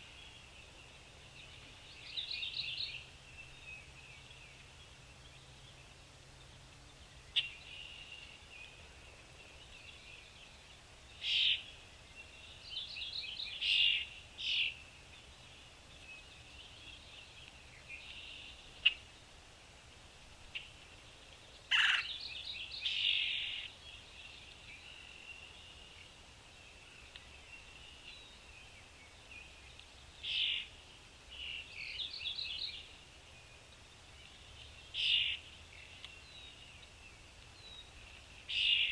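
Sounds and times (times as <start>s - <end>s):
small birds chirping: 0.0s - 19.4s, 20.4s - 38.9s.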